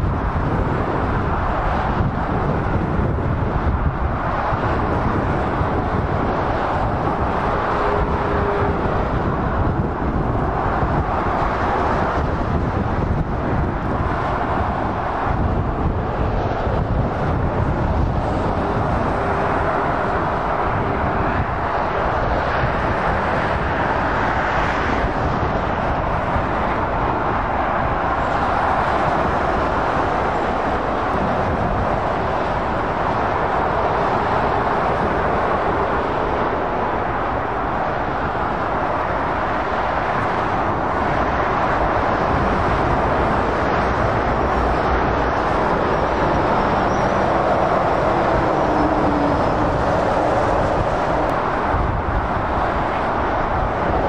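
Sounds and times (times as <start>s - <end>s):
heavy motorway traffic rushing: 0.0s - 54.0s.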